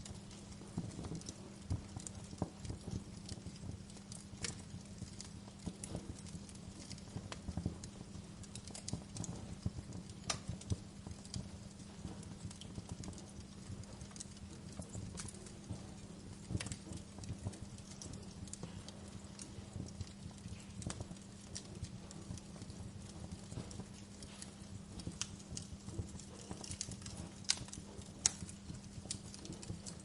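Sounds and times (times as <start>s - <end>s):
steady low hum: 0.0s - 30.0s
wood fire crackling: 0.0s - 30.0s.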